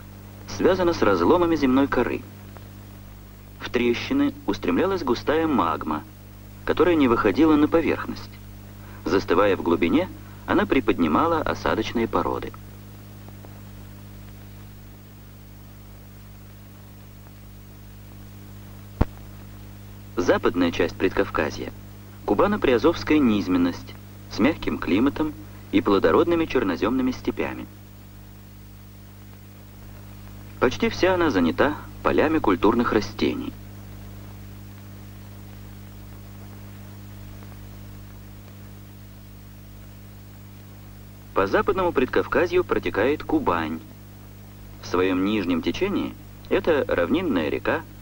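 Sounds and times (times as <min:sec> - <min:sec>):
low hum with hiss: 0:00.0 - 0:48.0.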